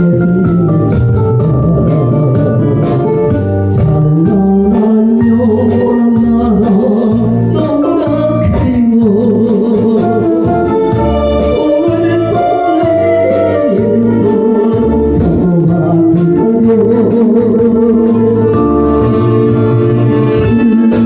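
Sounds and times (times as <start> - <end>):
electronic organ chords: 0.0 - 21.0
person singing with vibrato: 0.0 - 21.0.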